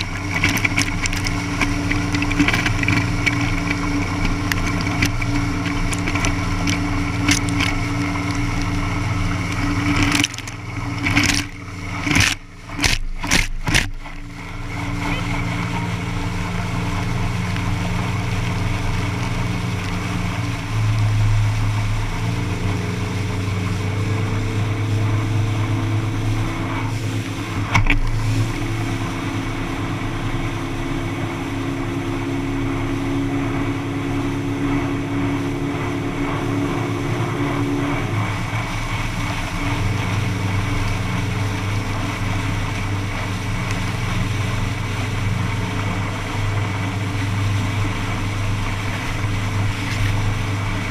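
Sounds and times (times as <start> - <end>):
motorboat engine running: 0.0 - 50.9
water rushing along hull: 0.0 - 50.9.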